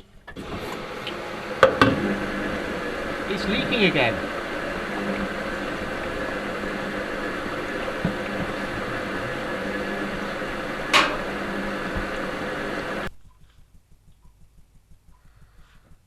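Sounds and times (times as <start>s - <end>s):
washing machine hum and churning: 0.0s - 13.4s.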